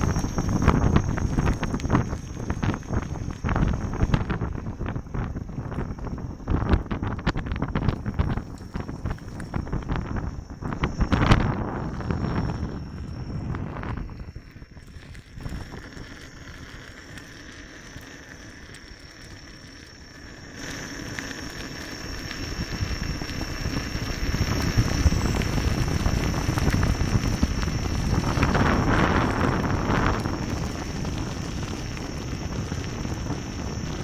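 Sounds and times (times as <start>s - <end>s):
faint high whine: 0.0s - 34.0s
wind rumbling on microphone: 0.0s - 34.0s.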